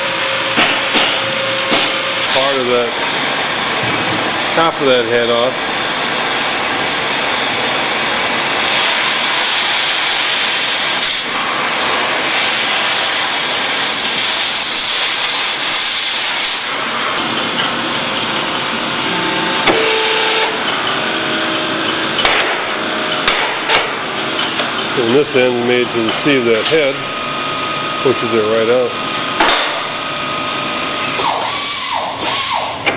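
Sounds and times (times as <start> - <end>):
hydraulic power unit hissing: 0.0 - 32.9.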